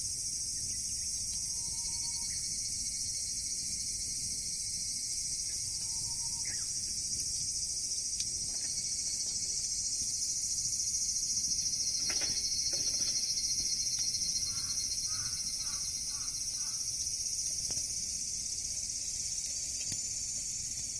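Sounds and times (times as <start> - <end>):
insects shrilling: 0.3 - 20.9.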